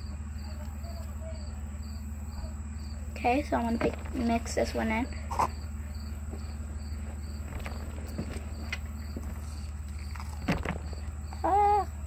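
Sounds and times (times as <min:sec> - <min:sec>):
cricket chirping: 0:00.0 - 0:12.0
low hum: 0:00.0 - 0:12.0.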